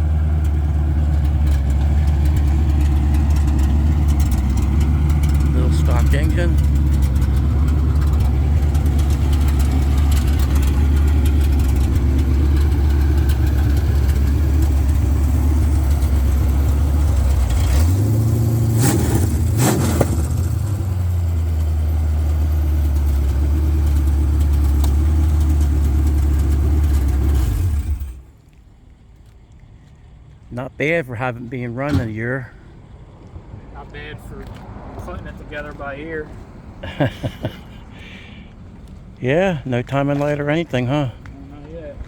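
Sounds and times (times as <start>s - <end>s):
car engine idling and revving: 0.0s - 30.7s, 31.4s - 42.0s.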